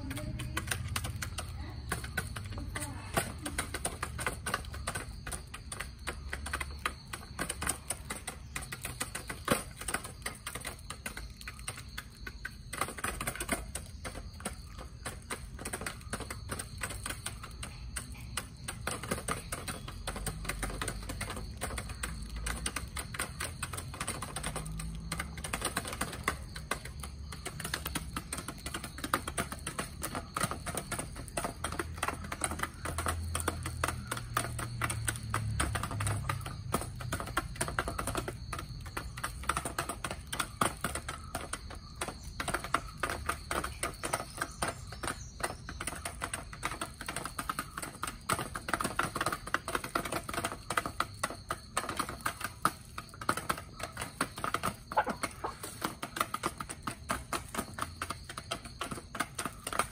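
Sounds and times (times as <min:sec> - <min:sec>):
chicken beaks tapping feeder: 0:00.0 - 0:59.9.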